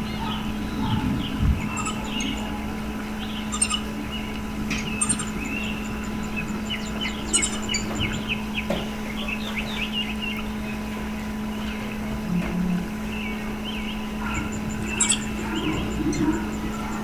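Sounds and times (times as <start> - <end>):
songbirds chirping: 0.0 - 17.0
steady low hum: 0.0 - 17.0.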